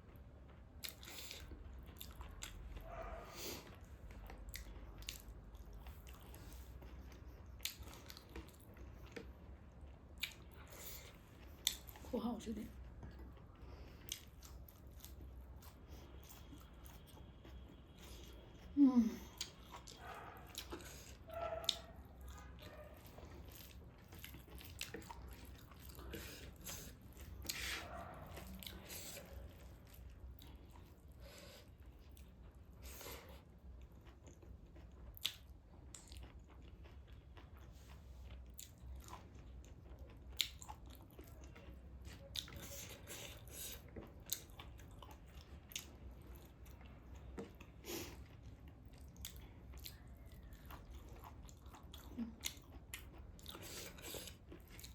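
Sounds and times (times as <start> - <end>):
person chewing: 0.1 - 12.1, 12.7 - 54.9.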